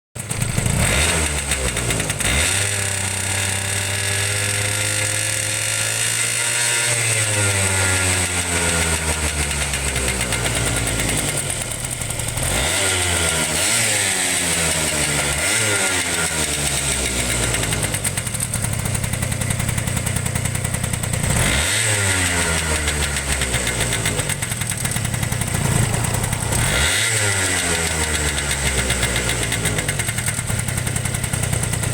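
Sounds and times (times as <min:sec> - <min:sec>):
scooter engine idling and revving: 0:00.2 - 0:31.9.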